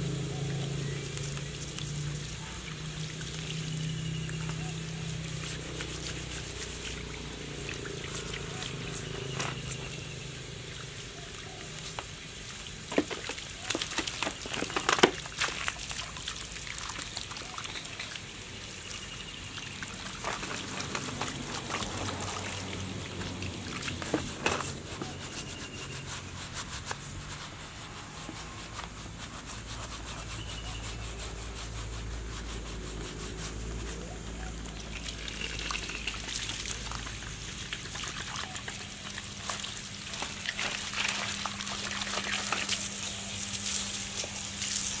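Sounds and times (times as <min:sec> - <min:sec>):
hose water splashing: 0:00.0 - 0:45.0.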